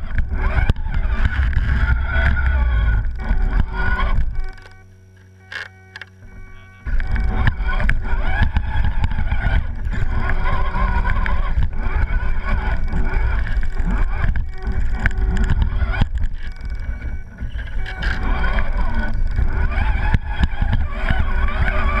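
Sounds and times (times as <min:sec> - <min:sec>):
heavy uneven rumble: 0:00.0 - 0:22.0
motor and gear whine: 0:00.0 - 0:22.0.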